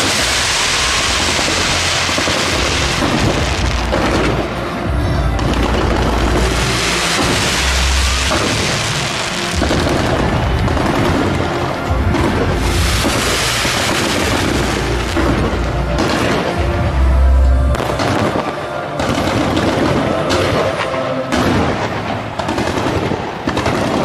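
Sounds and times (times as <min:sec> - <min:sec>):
fireworks firing and crackling: 0:00.0 - 0:24.0
music: 0:00.0 - 0:24.0.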